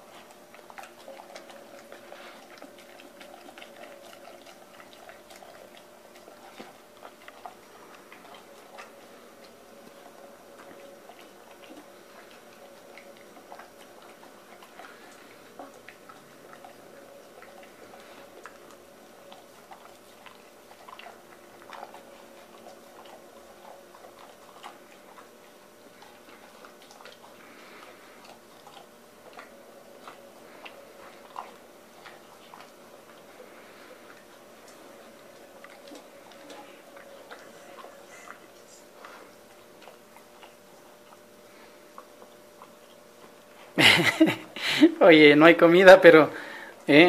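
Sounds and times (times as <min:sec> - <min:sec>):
dog licking a metal bowl: 0:00.0 - 0:43.5
faint steady hum: 0:00.0 - 0:47.0.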